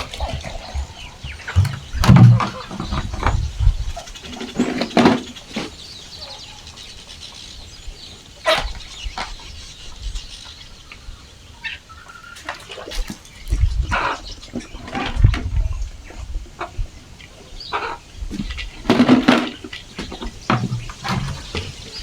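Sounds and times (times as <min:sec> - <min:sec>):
chickens calling: 0:00.0 - 0:22.0.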